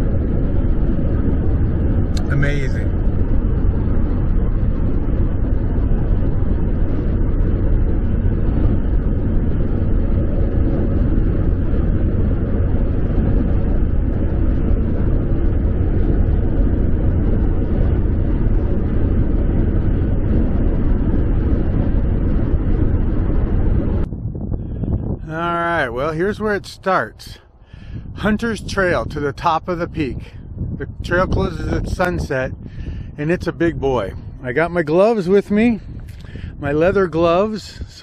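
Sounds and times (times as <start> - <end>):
steady low rumbling: 0.0 - 38.0.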